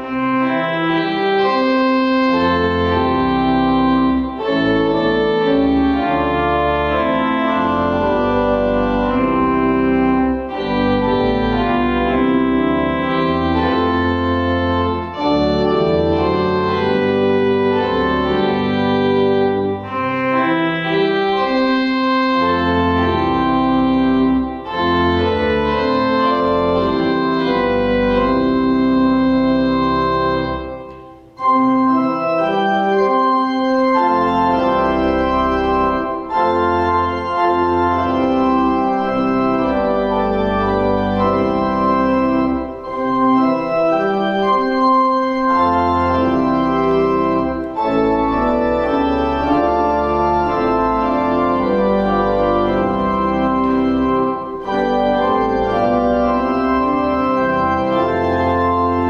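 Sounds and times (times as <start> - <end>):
church organ playing a hymn: 0.0 - 59.0.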